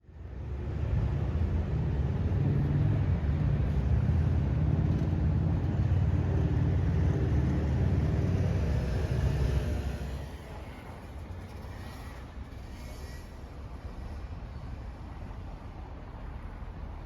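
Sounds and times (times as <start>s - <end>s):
train rumbling: 0.3s - 16.7s.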